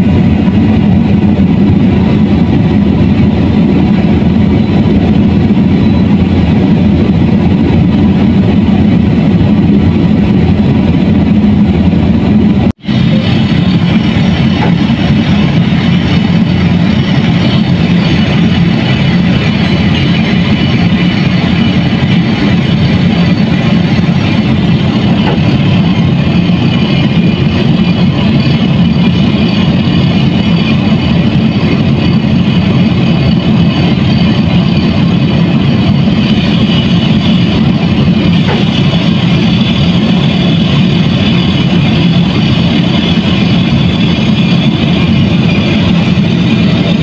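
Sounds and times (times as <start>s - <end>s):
diesel machinery running: 0.0s - 47.0s.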